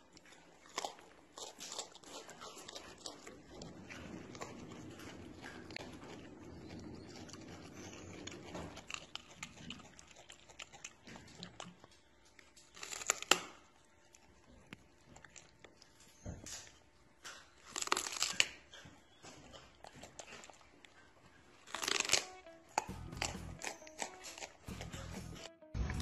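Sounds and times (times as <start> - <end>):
monkey chewing food: 0.0 - 26.0.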